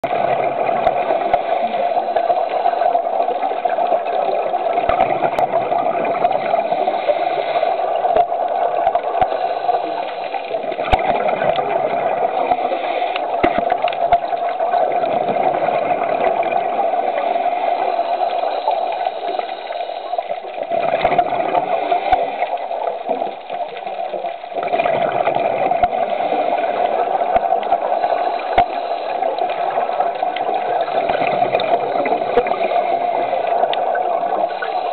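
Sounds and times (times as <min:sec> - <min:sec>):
exhaled bubbles gurgling: 0:00.0 - 0:34.9
underwater regulator breathing: 0:00.1 - 0:34.9.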